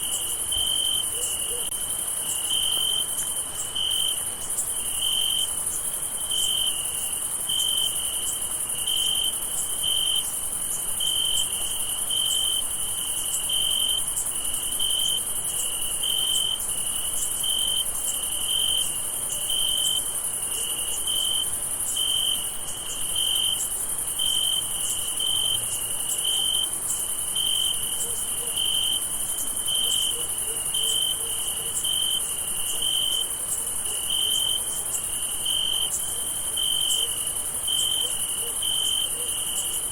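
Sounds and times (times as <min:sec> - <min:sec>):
crickets trilling: 0:00.0 - 0:39.9
low cricket chirp: 0:00.0 - 0:39.9.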